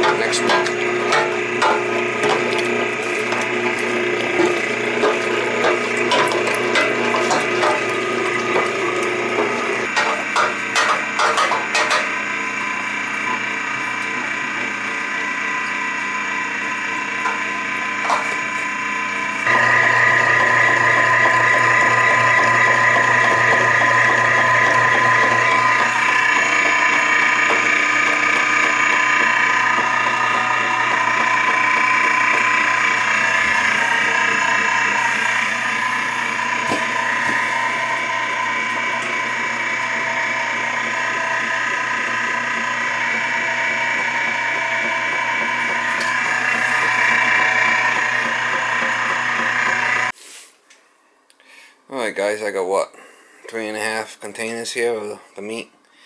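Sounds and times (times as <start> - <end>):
meat grinder motor humming: 0.0 - 50.2.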